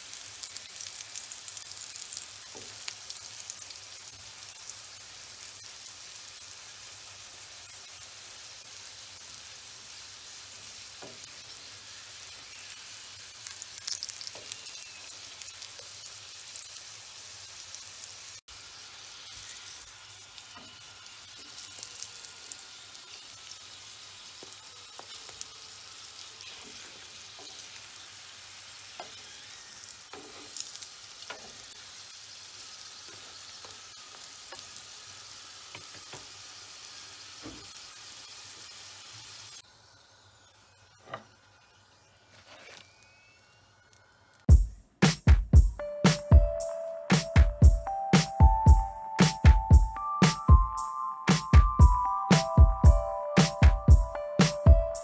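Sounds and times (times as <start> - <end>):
flatbreads sizzling on griddle: 0.0 - 44.5.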